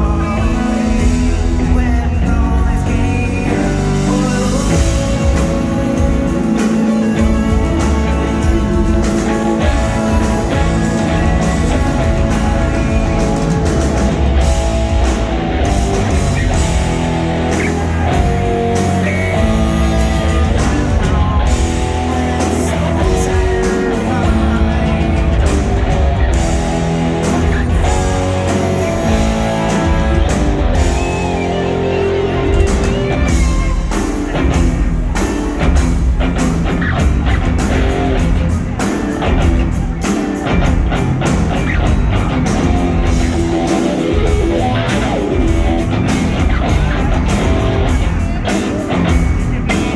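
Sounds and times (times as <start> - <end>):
bass guitar: 0.0 - 49.9
drum kit: 0.0 - 49.9
electric guitar: 0.0 - 49.9.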